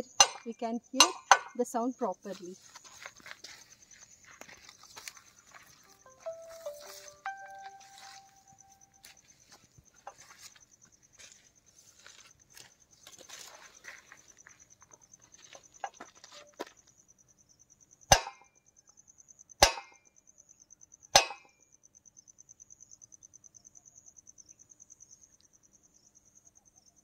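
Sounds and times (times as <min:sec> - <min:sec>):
cricket chirping: 0:00.0 - 0:27.0.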